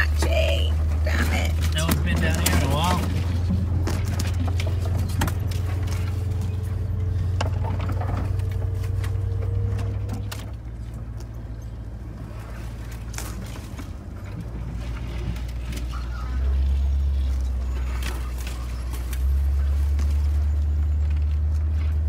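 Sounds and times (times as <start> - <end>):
low engine rumble: 0.0 - 22.0
branches scratching and snapping: 0.3 - 22.0.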